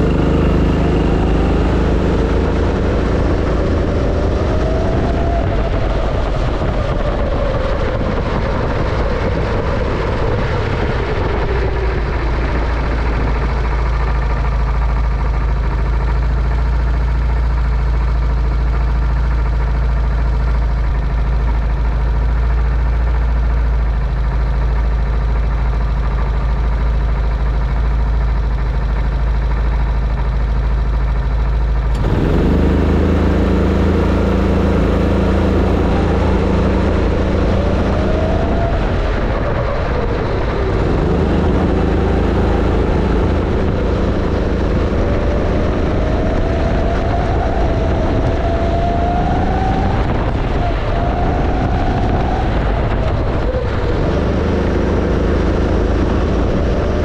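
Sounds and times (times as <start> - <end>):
go-kart engine: 0.0 - 57.0
road and wind noise: 0.0 - 57.0.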